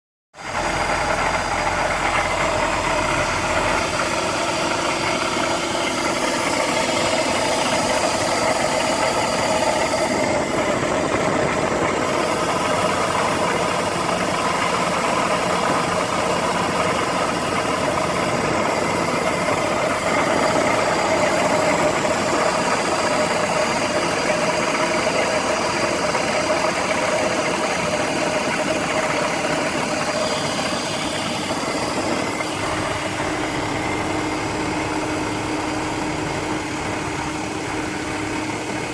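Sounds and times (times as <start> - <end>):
car engine idling with rattle: 0.4 - 38.9.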